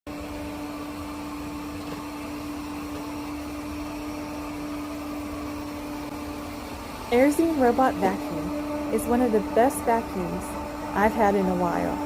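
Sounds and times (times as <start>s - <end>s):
robot vacuum motor hum: 0.1s - 12.0s.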